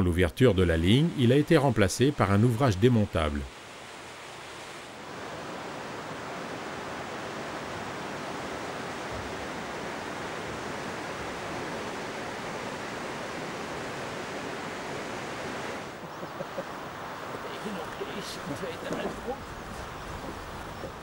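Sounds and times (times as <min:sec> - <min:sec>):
mountain stream rushing: 0:00.5 - 0:21.0.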